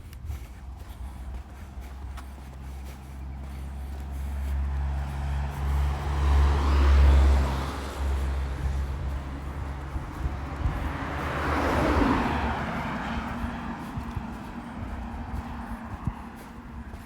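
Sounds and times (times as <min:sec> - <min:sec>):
car driving past: 0:02.4 - 0:17.0.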